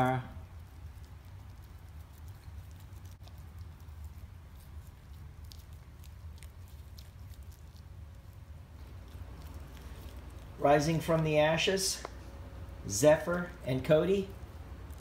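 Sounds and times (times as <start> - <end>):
low steady hum: 0.0 - 15.0
dog licking wet smacks: 0.4 - 13.6.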